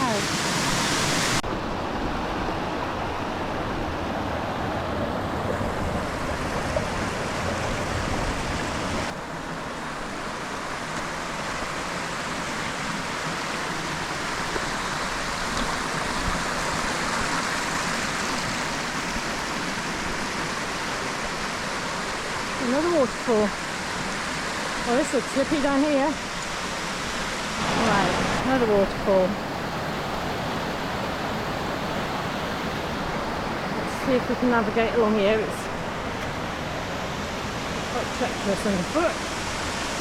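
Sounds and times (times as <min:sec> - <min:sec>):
waterfall and stream rushing: 0:00.0 - 0:40.0.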